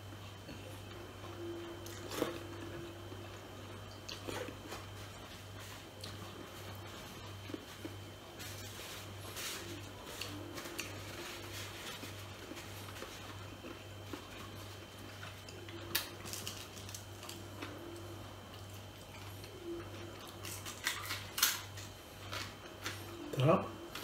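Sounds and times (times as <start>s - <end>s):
steady low hum: 0.0s - 24.0s
man chewing food: 0.1s - 24.0s.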